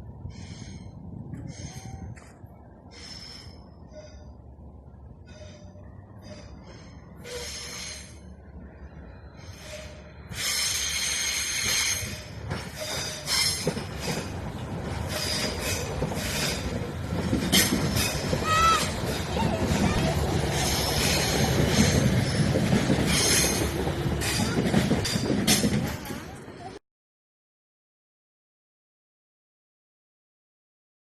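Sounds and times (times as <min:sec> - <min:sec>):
train rumble: 0:00.0 - 0:26.8
train wheels squealing on rails: 0:00.1 - 0:26.8.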